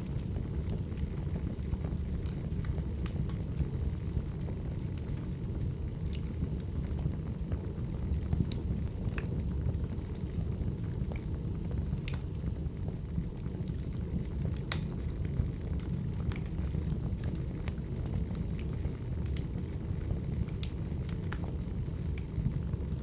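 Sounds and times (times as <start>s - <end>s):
crackles and pops of logs: 0.0s - 23.0s
low rush of fire: 0.0s - 23.0s.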